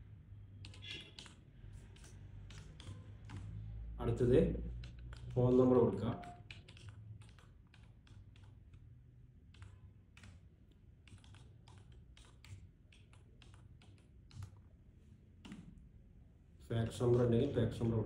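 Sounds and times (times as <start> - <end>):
faint keyboard typing: 0.3 - 16.0, 16.7 - 18.0.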